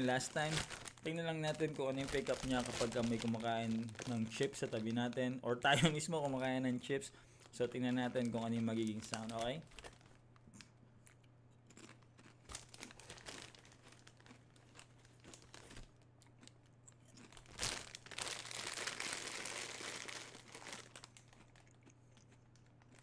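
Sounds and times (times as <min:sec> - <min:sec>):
plastic chip bag crinkling: 0:00.0 - 0:10.4, 0:11.7 - 0:23.0.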